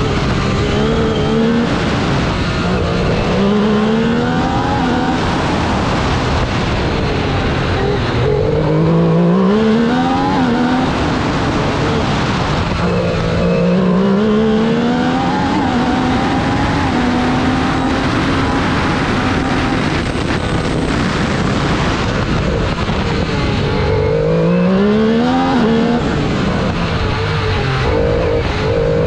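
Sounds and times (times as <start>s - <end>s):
race car engine revving: 0.0s - 29.0s
wind and road noise: 0.0s - 29.0s.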